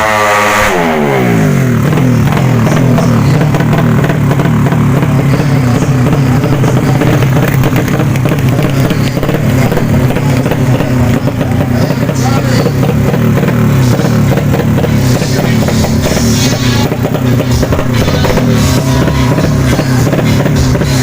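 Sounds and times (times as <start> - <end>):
motorcycle engine: 0.0 - 21.0.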